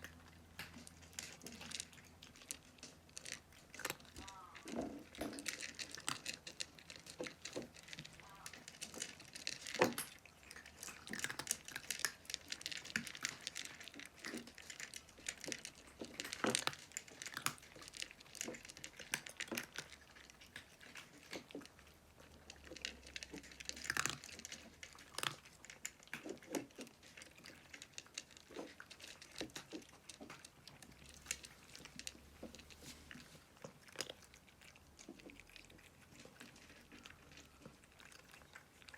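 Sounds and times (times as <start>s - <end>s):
cats crunching dry food: 0.0s - 38.9s
pellets clicking: 0.0s - 38.9s.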